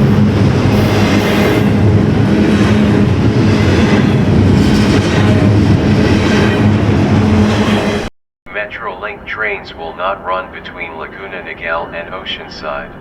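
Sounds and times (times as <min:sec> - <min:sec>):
train running on tracks: 0:00.0 - 0:13.0.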